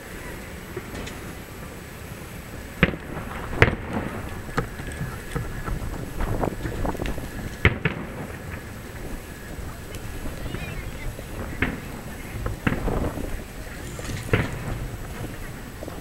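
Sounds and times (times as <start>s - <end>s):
background noise: 0.0s - 16.0s
firework bangs and crackles: 0.0s - 16.0s
fireworks booming: 0.0s - 16.0s.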